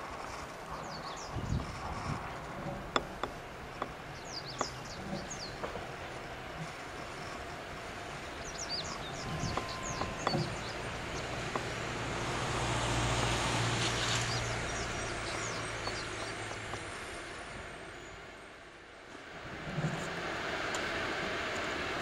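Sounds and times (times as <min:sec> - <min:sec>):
train wheels rolling: 0:00.0 - 0:17.8
birds chirping: 0:00.6 - 0:18.3
electric train humming: 0:02.5 - 0:22.0.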